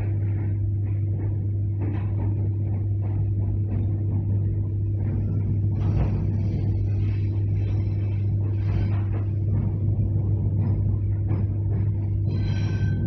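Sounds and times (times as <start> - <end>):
running gear rumble: 0.0 - 13.0
train interior hum: 0.0 - 13.0.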